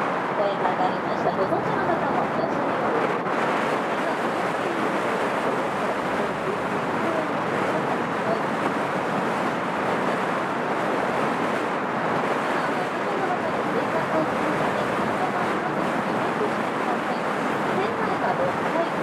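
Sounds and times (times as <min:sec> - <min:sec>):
boat engine: 0:00.0 - 0:19.0
water along hull: 0:00.0 - 0:19.0
wind on microphone: 0:00.0 - 0:19.0.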